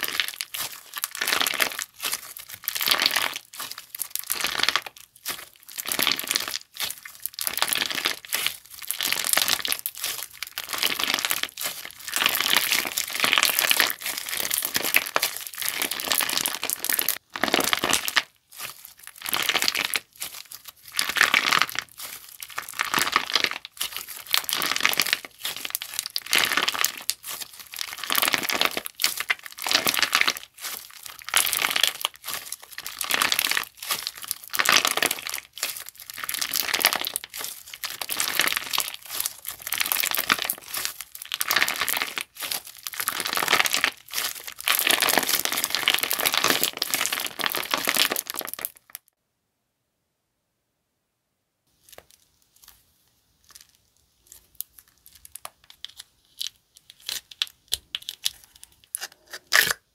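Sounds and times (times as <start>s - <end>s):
slime crackling and popping: 0.0s - 49.1s, 51.8s - 59.8s.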